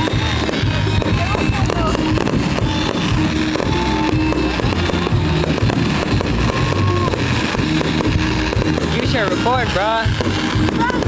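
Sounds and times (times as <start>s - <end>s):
fireworks crackling: 0.0s - 11.0s
loud music with sustained notes: 0.0s - 11.0s.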